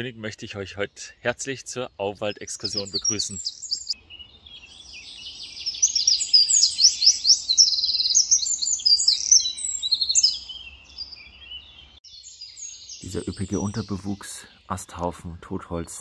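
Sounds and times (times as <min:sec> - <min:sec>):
wren singing trills: 0:00.0 - 0:16.0.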